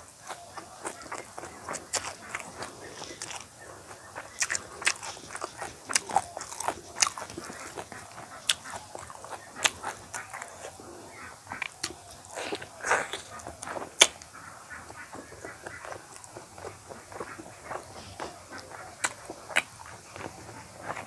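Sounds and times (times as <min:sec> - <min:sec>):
wet chewing and biting: 0:00.0 - 0:21.0.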